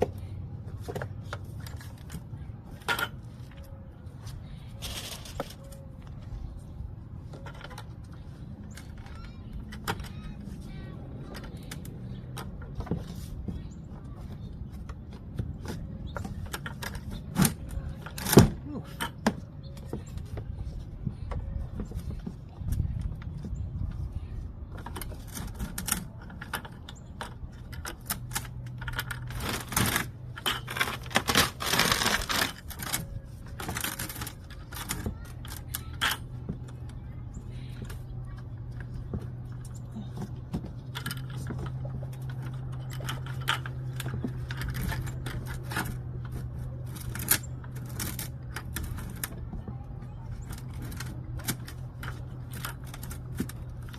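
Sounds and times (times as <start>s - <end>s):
hand tools clinking and scraping: 0.0s - 24.1s, 24.7s - 53.9s.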